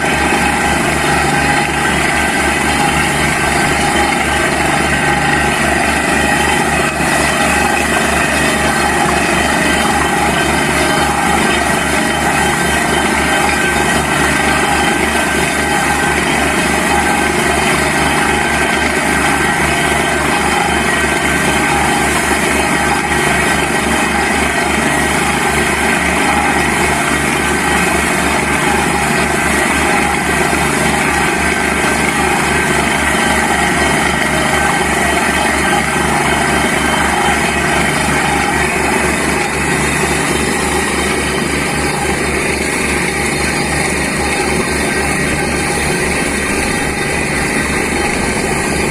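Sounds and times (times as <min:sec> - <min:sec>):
air compressor running: 0:00.0 - 0:48.9
drilling rig running: 0:00.0 - 0:48.9.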